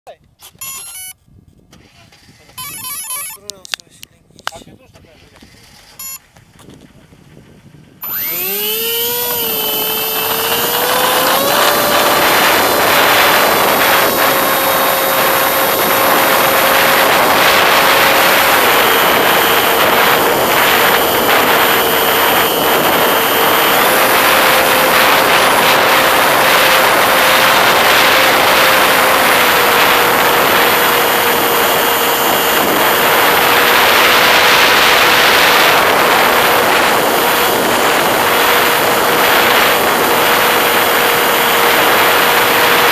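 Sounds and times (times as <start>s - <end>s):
rushing wind: 0.2s - 42.9s
model airplane motor droning: 0.6s - 1.2s, 2.4s - 3.5s, 5.3s - 6.3s, 8.0s - 42.9s.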